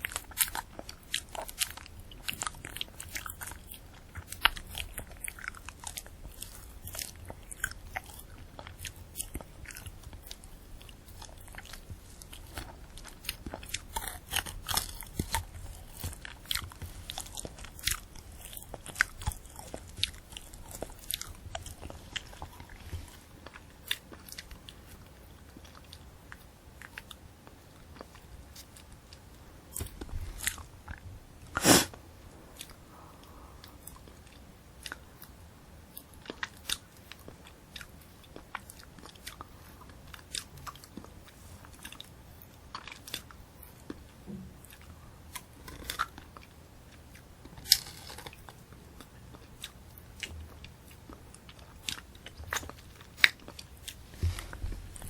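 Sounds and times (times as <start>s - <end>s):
crunching candy apple: 0.0s - 32.0s, 33.7s - 55.0s.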